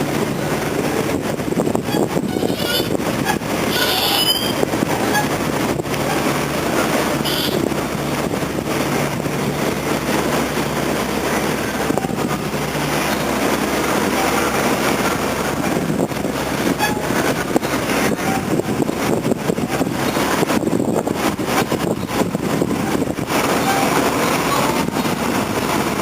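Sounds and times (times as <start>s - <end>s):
low engine hum: 0.0s - 26.0s
moving vehicle rumble: 0.0s - 26.0s.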